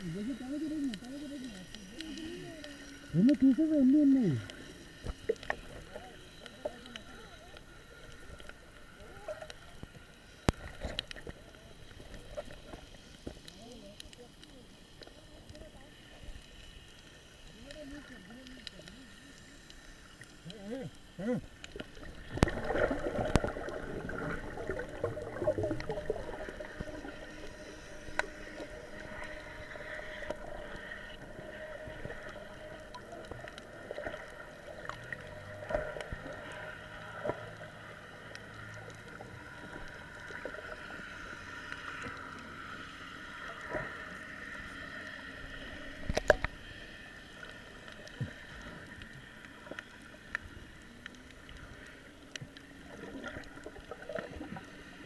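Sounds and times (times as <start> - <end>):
muffled underwater water movement: 0.0 - 55.0
faint clicks: 0.6 - 3.5, 4.4 - 55.0.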